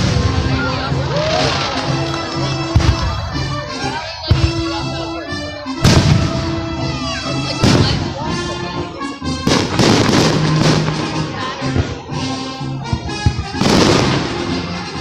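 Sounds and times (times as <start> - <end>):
background music: 0.0 - 15.0
fireworks bursting and crackling: 0.0 - 15.0.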